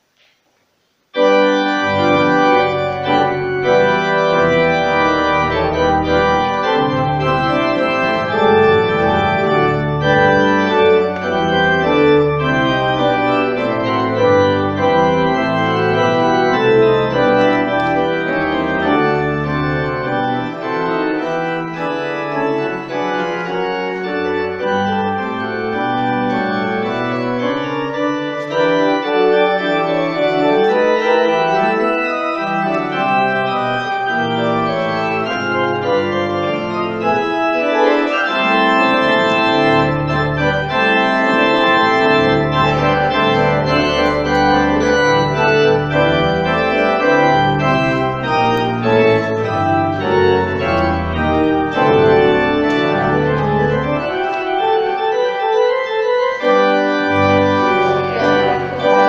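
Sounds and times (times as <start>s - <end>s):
church organ chords: 1.1s - 59.0s
deep organ pedal bass: 1.2s - 59.0s.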